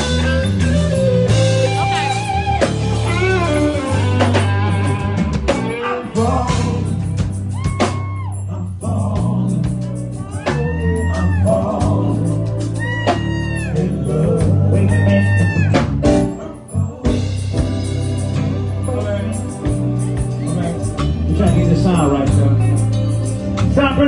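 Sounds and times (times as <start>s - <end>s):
live band playing soul blues: 0.0s - 24.0s.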